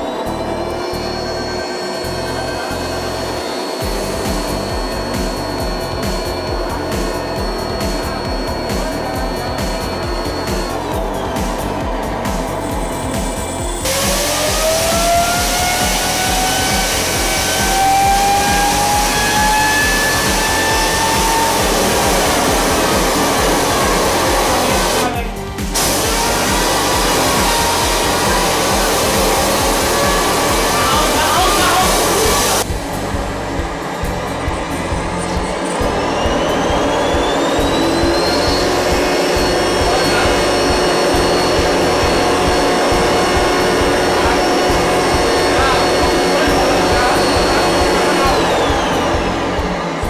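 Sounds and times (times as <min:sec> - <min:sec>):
background music with beat: 0:00.0 - 0:50.0
jet turbine starter whine: 0:00.0 - 0:50.0.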